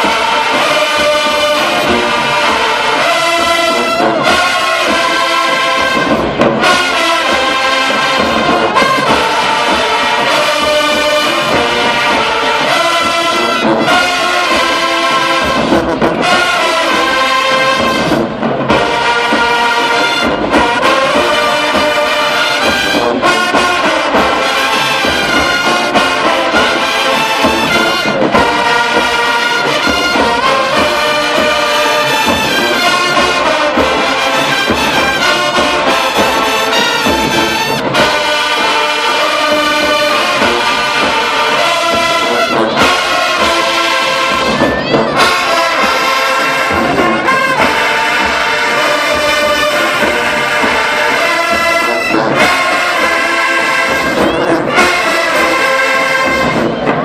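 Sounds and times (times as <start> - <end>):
marching band brass playing: 0.0 - 57.0.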